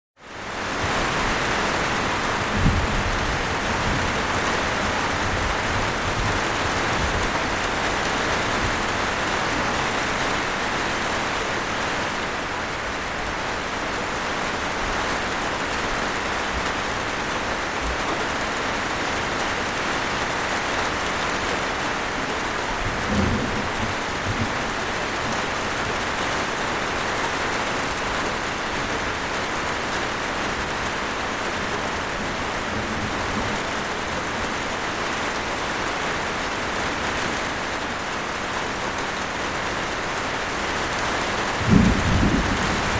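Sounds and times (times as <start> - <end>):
rain falling: 0.2 - 42.9.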